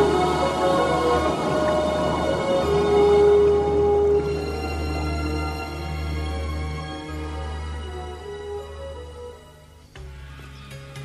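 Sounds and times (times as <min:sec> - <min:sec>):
low drone: 0:00.0 - 0:10.6
sustained synthesizer chords: 0:00.0 - 0:10.8
slow melodic notes: 0:00.0 - 0:11.0.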